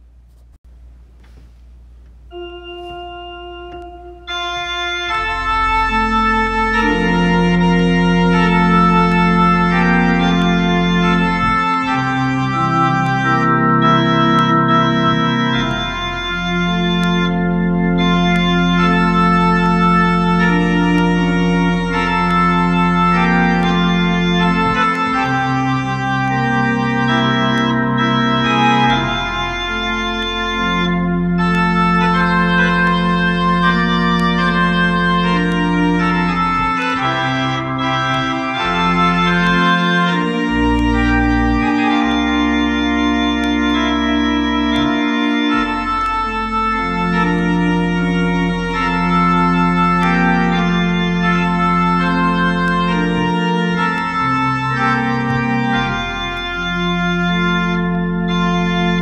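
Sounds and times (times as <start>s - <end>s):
electronic organ playing hymn: 2.1s - 59.0s.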